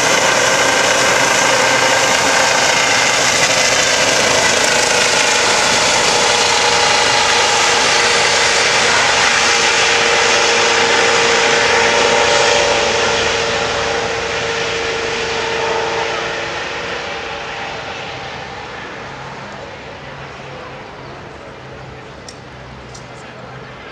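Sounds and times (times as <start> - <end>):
helicopter rotor noise: 0.0 - 23.9
helicopter turbine whine: 0.0 - 23.9.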